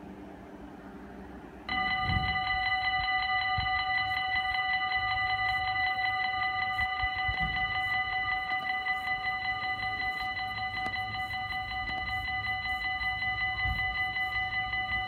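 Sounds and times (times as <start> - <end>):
electric train humming: 0.0 - 15.0
level-crossing bell ringing: 1.7 - 15.0.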